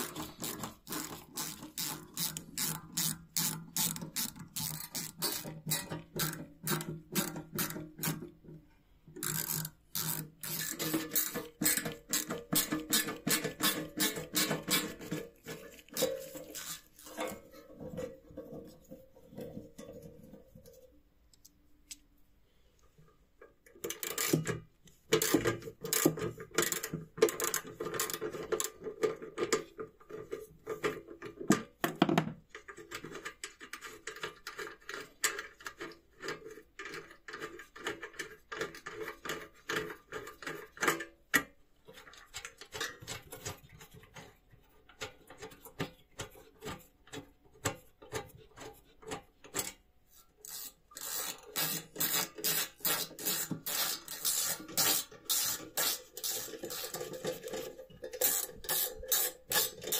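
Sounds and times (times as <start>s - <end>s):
metal taps and scrapes: 0.0s - 22.1s, 22.8s - 59.9s.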